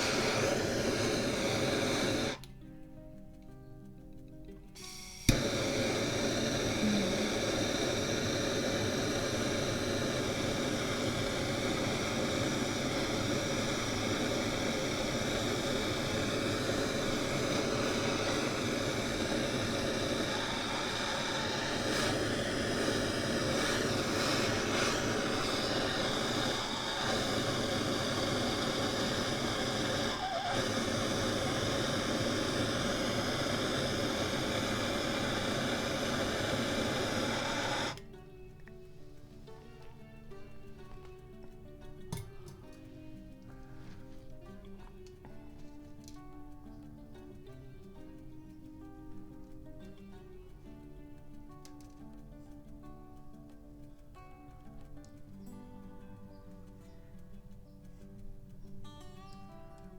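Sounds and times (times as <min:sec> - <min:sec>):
torch flame hissing: 0:00.0 - 0:03.0, 0:04.5 - 0:50.7.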